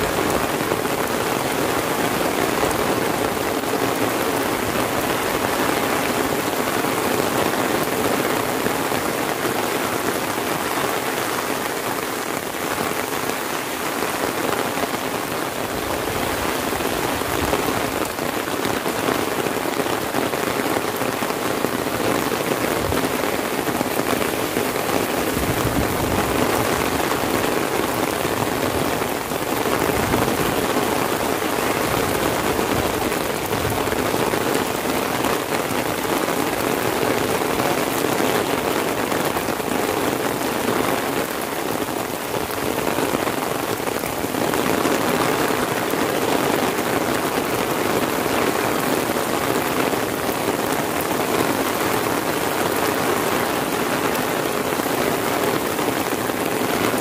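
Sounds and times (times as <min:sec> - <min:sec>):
rain drumming on an umbrella: 0:00.0 - 0:57.0
rain on wet pavement: 0:00.0 - 0:57.0.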